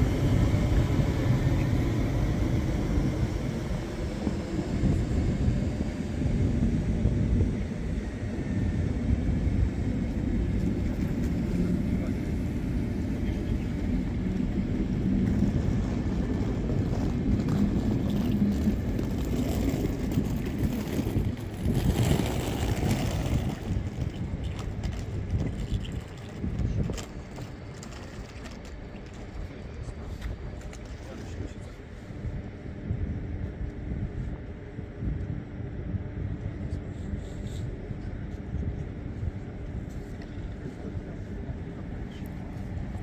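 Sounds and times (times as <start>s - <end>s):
vehicle rumbling in motion: 0.0s - 43.0s.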